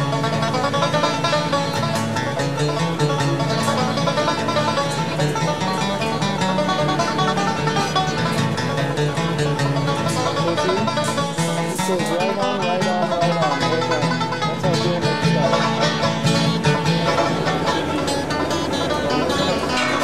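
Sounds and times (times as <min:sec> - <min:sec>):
bluegrass music with plucked strings: 0:00.0 - 0:20.0.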